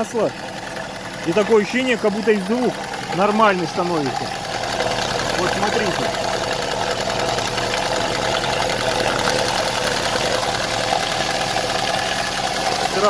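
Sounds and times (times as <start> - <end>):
car engine idling: 0.0 - 13.0
valvetrain ticking: 0.0 - 13.0.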